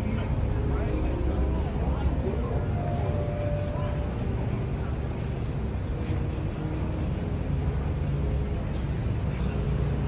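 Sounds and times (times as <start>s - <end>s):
cars driving slowly: 0.0s - 10.0s.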